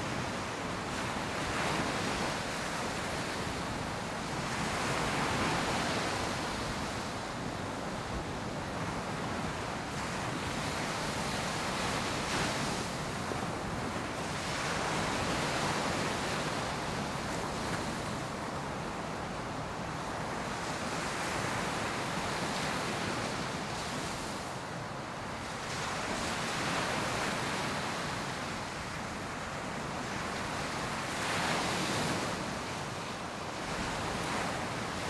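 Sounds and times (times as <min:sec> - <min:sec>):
ocean waves breaking on sand: 0:00.0 - 0:35.0.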